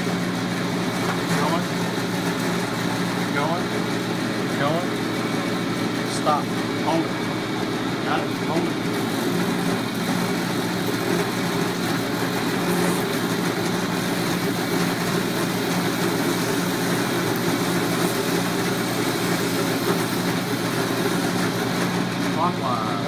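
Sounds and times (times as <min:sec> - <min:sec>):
milling machine running: 0:00.0 - 0:23.0.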